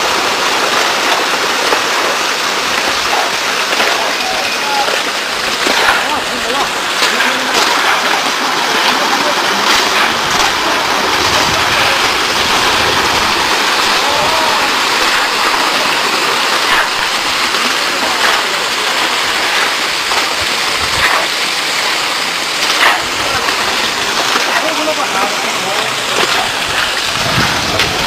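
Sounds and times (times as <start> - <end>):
flood water rushing over rocks: 0.0 - 28.0.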